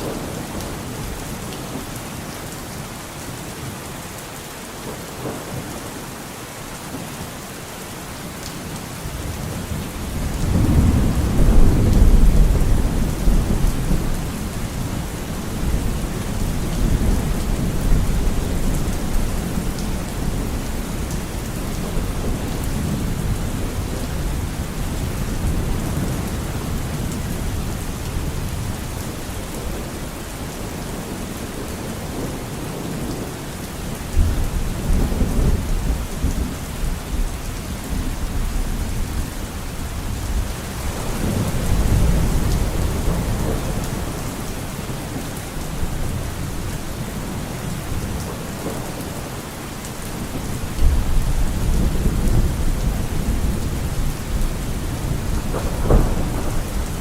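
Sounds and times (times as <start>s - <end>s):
heavy rain: 0.0s - 57.0s
thunder rumbling: 9.1s - 31.2s, 31.8s - 49.2s, 50.2s - 57.0s.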